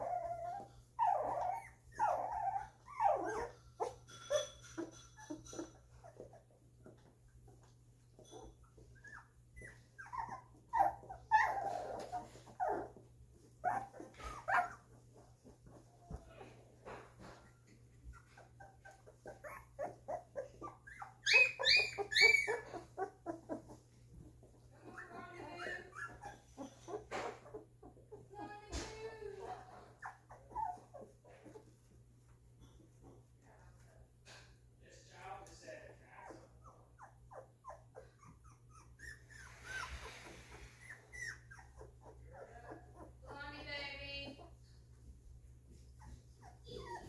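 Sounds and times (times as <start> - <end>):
puppies crying: 0.0 - 6.6, 8.2 - 16.6, 17.2 - 31.6, 36.0 - 44.6, 46.0 - 47.0.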